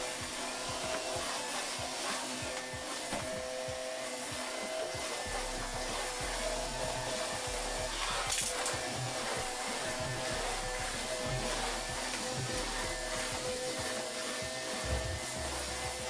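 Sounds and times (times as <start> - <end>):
appliance motor whooshing: 0.0 - 16.0
soft background music: 0.0 - 16.0.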